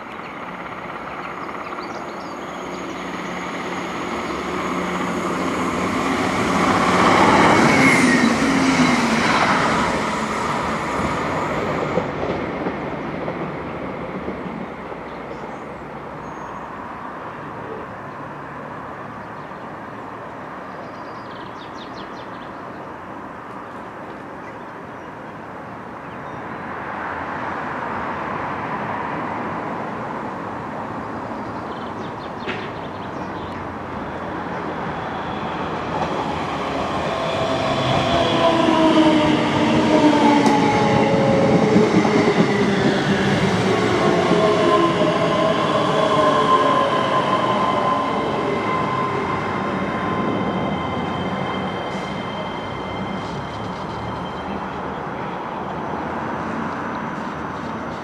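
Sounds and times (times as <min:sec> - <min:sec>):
electric train approaching: 0:00.0 - 0:20.7, 0:26.6 - 0:58.0
diesel train passing: 0:00.0 - 0:58.0.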